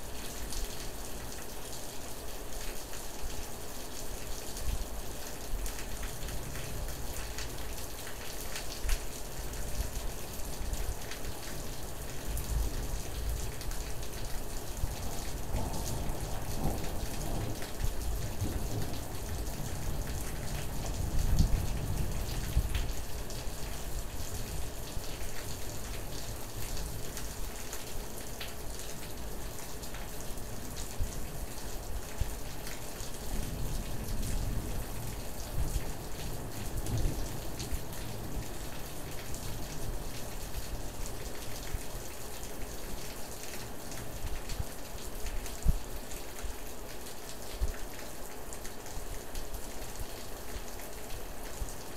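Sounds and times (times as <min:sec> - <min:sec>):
steady rain falling: 0:00.0 - 0:51.9
raindrops ticking near microphone: 0:00.1 - 0:51.9.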